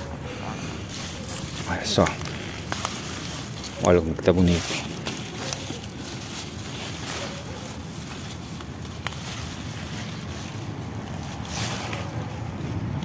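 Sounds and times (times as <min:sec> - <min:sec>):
leafy plants rustling: 0:00.0 - 0:13.0.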